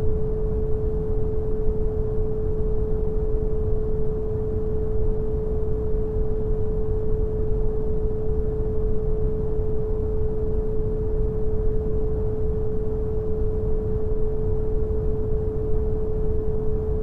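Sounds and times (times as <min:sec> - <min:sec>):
pure steady tone: 0:00.0 - 0:17.0.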